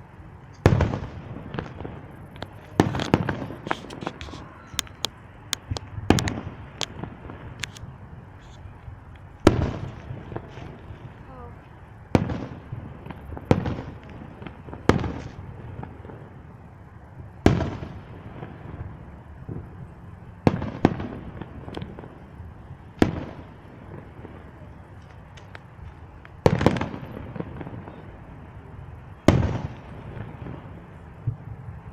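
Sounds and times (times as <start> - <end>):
fireworks bangs: 0.0 - 8.6, 9.4 - 31.9.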